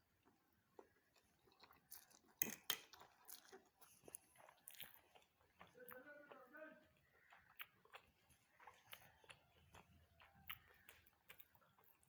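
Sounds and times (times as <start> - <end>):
person chewing noodles: 0.0 - 12.0.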